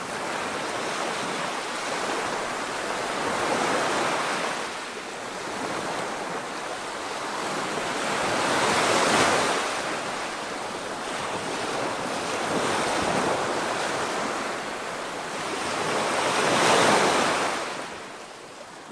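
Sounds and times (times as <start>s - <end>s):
ocean surf on a beach: 0.0s - 18.9s.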